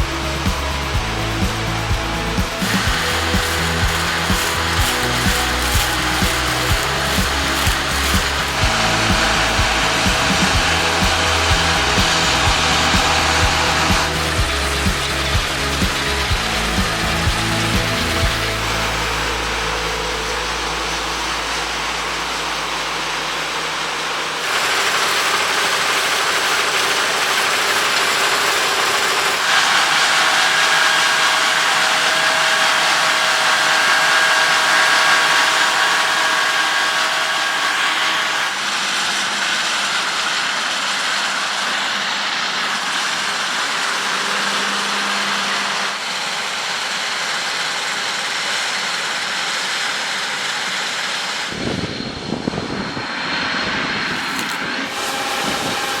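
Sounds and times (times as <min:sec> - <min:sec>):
combine harvester machinery drone: 0:00.0 - 0:56.0
high machine whine: 0:00.0 - 0:56.0.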